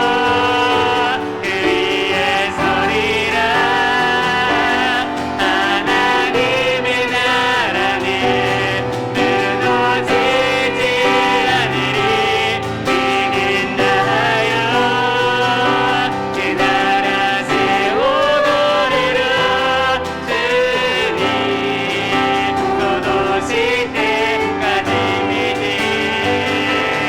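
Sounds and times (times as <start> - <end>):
people singing: 0.0 - 27.0
piano: 0.0 - 27.0.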